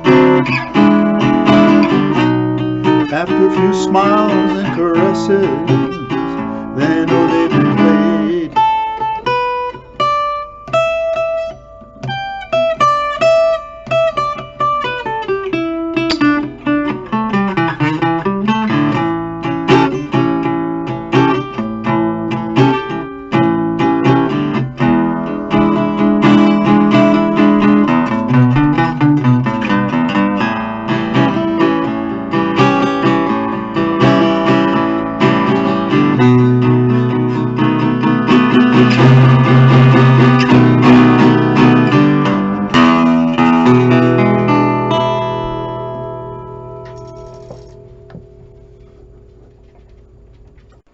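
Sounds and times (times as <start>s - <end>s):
acoustic guitar chords strummed: 0.0s - 50.9s
acoustic guitar melody: 0.0s - 50.9s.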